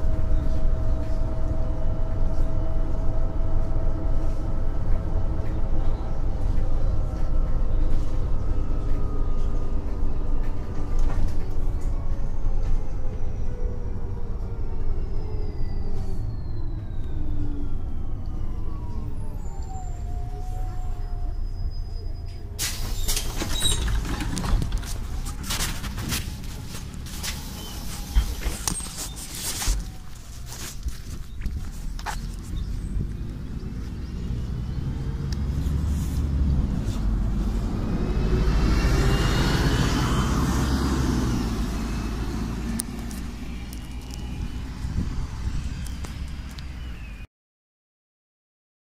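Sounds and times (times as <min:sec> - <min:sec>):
bus engine idling: 0:00.0 - 0:47.2.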